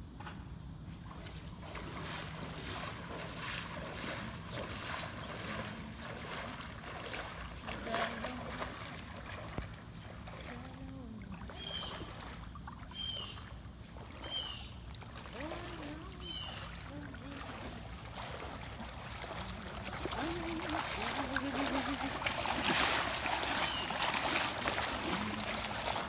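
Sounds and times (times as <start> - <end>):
person wading through water: 0.9 - 26.0.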